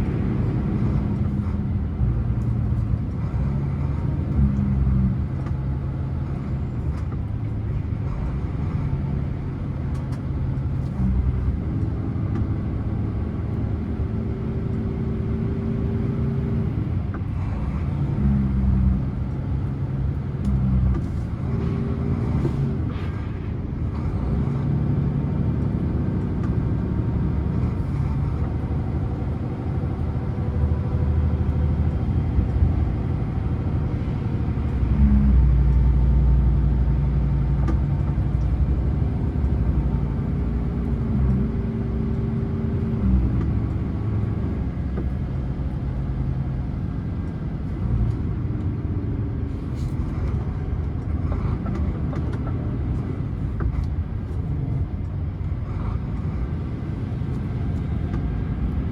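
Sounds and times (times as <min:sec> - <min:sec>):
diesel truck engine rumbling: 0:00.0 - 0:58.9.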